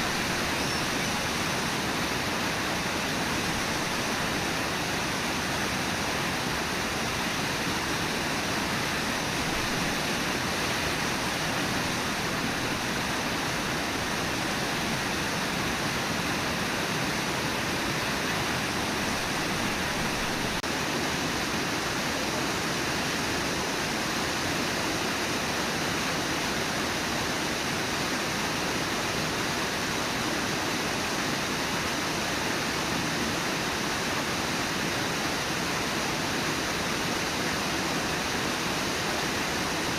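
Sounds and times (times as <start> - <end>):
rushing water of falls and river: 0.0 - 39.9.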